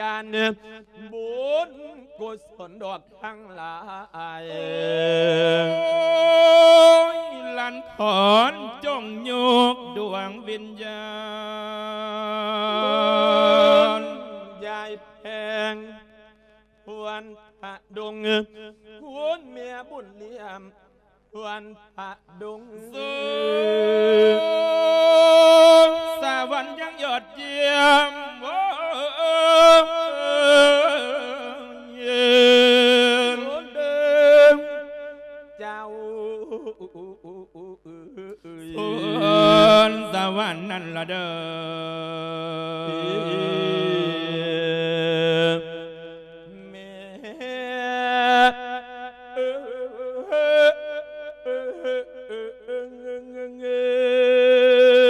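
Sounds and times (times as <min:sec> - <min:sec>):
man chanting melodically: 0:00.0 - 0:16.2, 0:16.9 - 0:20.8, 0:21.4 - 0:55.0.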